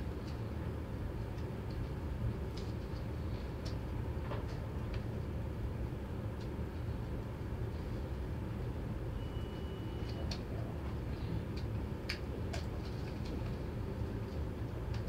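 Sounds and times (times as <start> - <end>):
low room rumble: 0.0 - 15.0.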